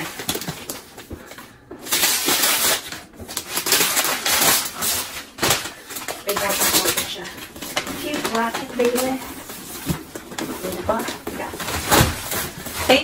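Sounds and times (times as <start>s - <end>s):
wrapping paper crinkling and tearing: 0.0s - 13.0s.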